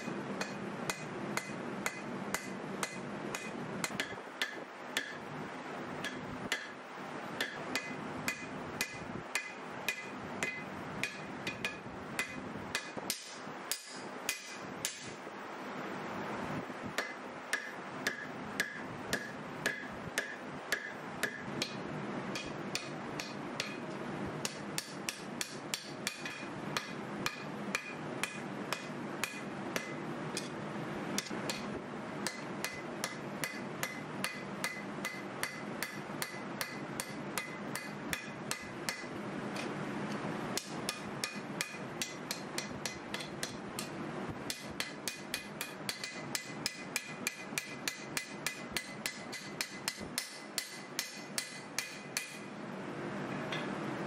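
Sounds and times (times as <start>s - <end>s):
hammer striking steel on anvil: 0.0s - 5.2s, 6.0s - 15.2s, 17.0s - 30.6s, 31.2s - 39.7s, 40.6s - 52.5s.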